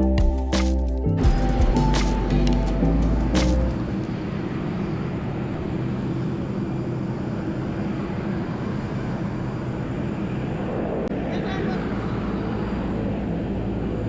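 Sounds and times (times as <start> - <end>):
jet engines droning: 1.0 - 14.0.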